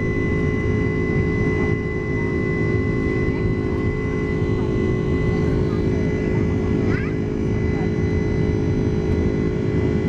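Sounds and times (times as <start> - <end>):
airliner cabin engine rumble: 0.0 - 10.0
steady high whine: 0.0 - 10.0.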